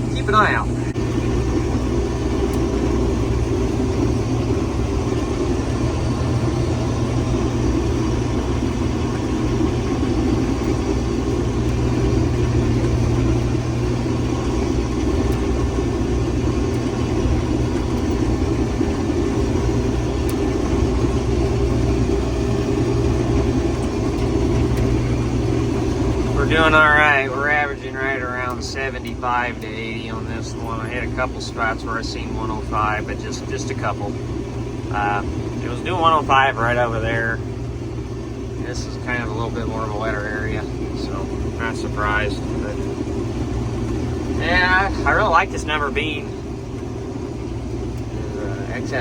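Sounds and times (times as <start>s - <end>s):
combine harvester droning: 0.0s - 49.0s.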